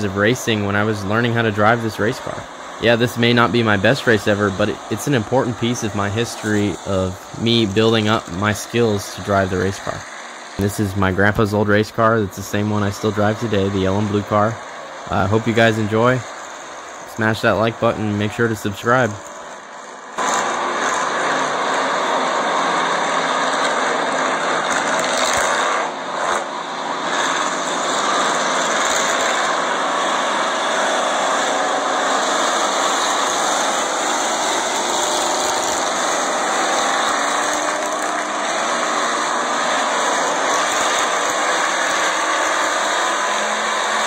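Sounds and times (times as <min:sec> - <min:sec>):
race car engines: 0:00.0 - 0:44.0.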